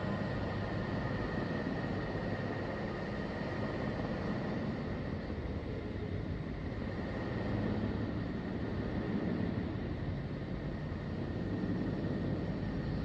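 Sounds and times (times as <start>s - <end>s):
noisy rumbling drone: 0.0s - 13.0s.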